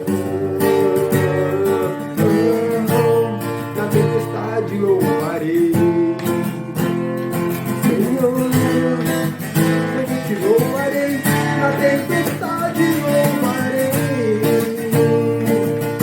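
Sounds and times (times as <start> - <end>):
acoustic guitar strumming: 0.0 - 16.0
person singing wordless melody: 0.0 - 16.0.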